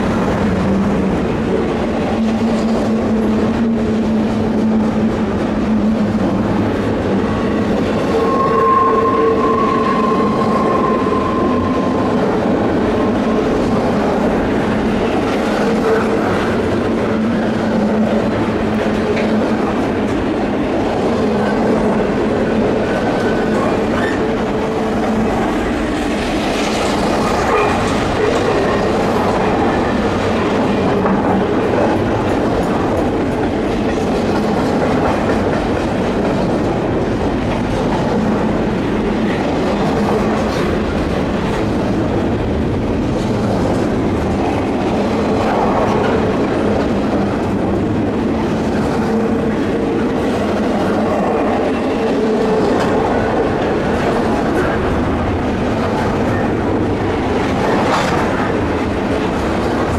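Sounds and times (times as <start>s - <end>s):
train wheels clacking on rail: 0.0s - 59.9s.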